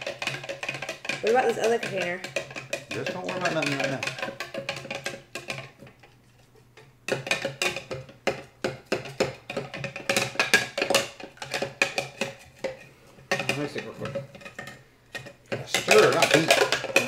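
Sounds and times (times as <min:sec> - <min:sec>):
spoon knocking in plastic cup: 0:00.0 - 0:06.1, 0:06.8 - 0:17.0.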